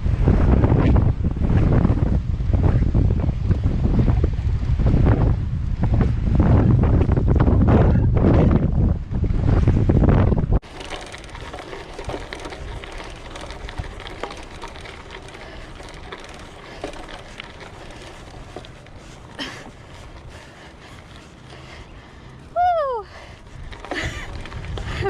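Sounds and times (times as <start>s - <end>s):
bike rolling noise: 0.0s - 25.0s
wind buffeting microphone: 0.0s - 25.0s
bike ticks and rattles: 0.1s - 25.0s.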